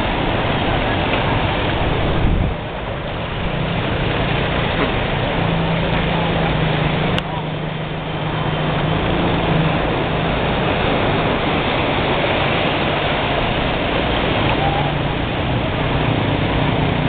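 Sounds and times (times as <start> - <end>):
floodwater rushing and splashing: 0.0 - 17.0.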